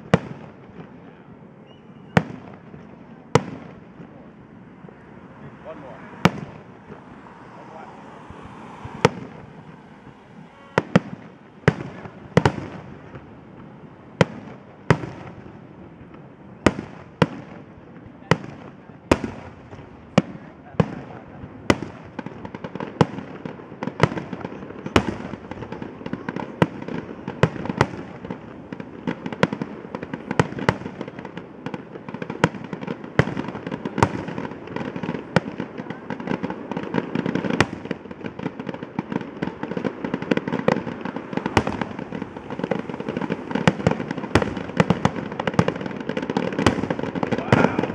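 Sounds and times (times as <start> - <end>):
rumble and crackle of fireworks: 0.0 - 47.9.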